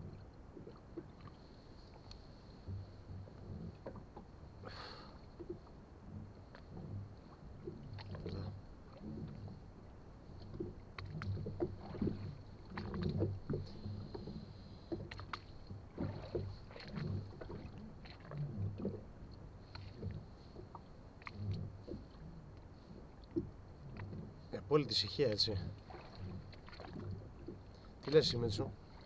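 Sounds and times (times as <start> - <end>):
water lapping against boat hull: 0.0 - 29.0.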